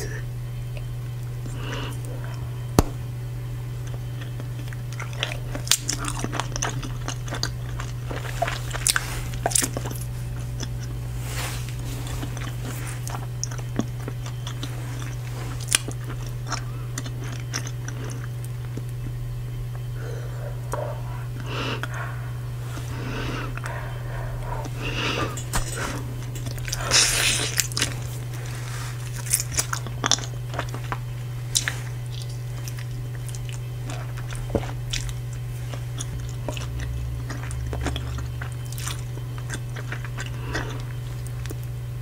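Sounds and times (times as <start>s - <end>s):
low hum: 0.0s - 42.0s
bubble gum chewing: 3.8s - 41.8s.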